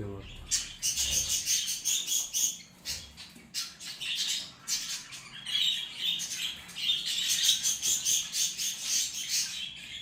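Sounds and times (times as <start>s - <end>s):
budgerigars chattering: 0.0s - 10.0s.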